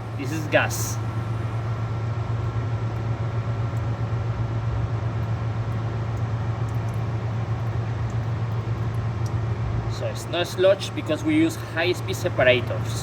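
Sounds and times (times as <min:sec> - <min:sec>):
faint steady whine: 0:00.0 - 0:13.0
industrial machinery humming: 0:00.0 - 0:13.0.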